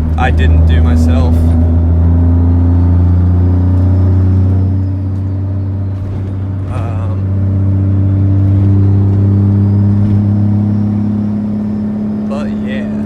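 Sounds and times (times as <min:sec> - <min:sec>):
diesel engine droning in cab: 0:00.0 - 0:13.0.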